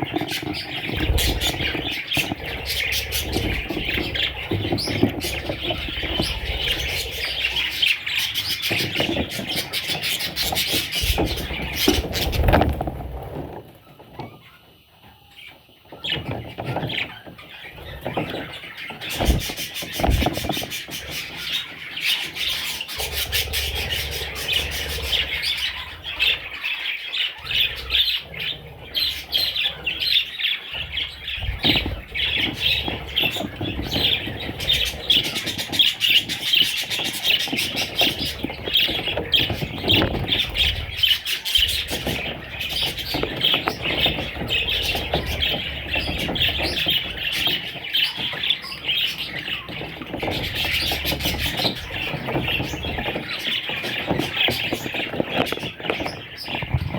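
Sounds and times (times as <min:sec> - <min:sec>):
budgerigars chattering: 0:00.0 - 0:14.7, 0:15.3 - 0:56.9.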